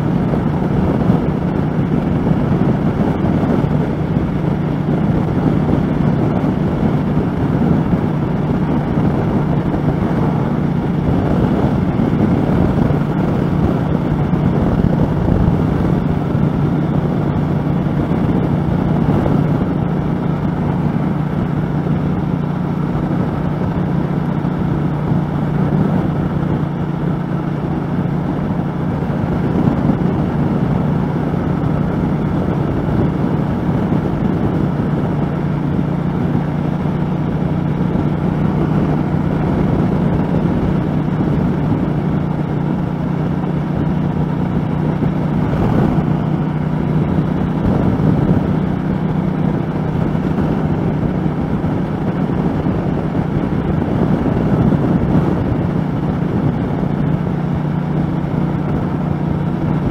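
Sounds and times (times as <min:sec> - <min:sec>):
motorcycle engine running: 0:00.0 - 0:59.9
wind rush over microphone: 0:00.0 - 0:59.9.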